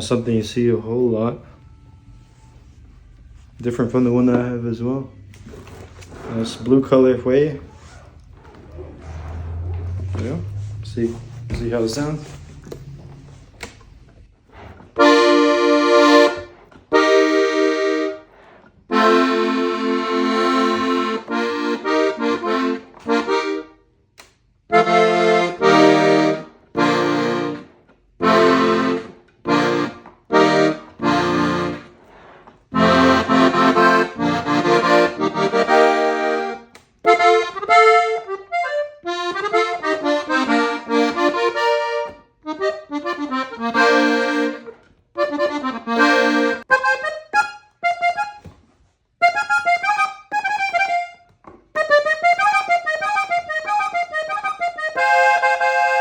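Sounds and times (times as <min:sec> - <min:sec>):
accordion playing: 0:06.0 - 0:23.9, 0:24.7 - 0:56.0.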